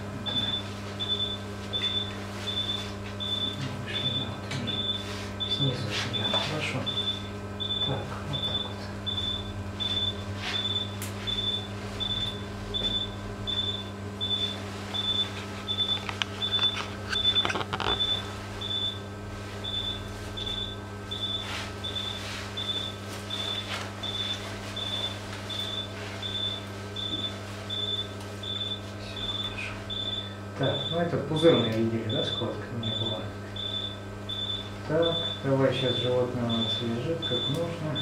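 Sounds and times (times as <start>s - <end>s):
low electrical hum: 0.0s - 38.0s
patient monitor pulse beeps: 0.2s - 19.0s, 19.6s - 38.0s.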